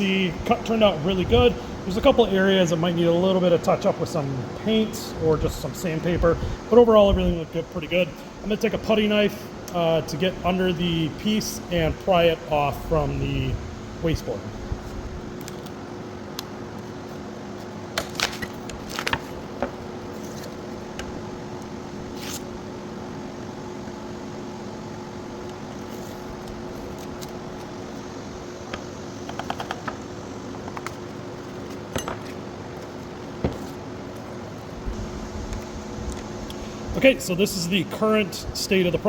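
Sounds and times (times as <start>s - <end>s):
steady background hum: 0.0s - 39.0s.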